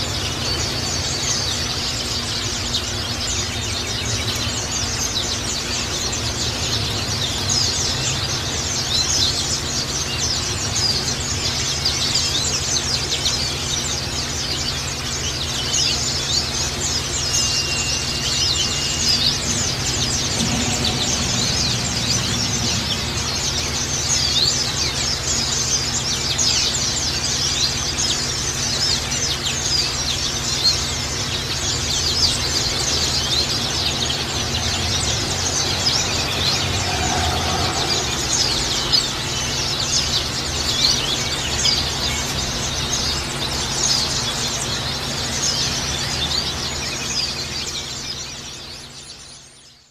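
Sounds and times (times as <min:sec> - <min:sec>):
steady low hum: 0:00.0 - 0:48.4
flock of birds chirping: 0:00.0 - 0:49.9.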